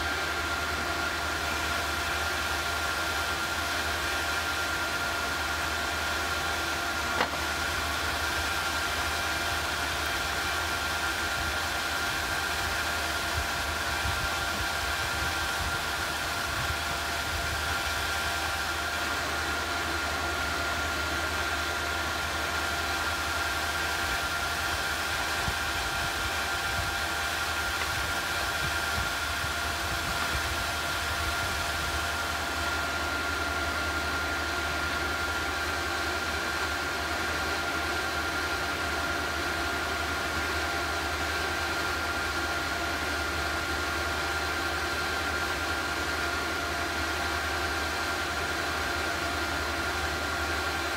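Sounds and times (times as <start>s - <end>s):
induction heater whirring hiss: 0.0s - 50.9s.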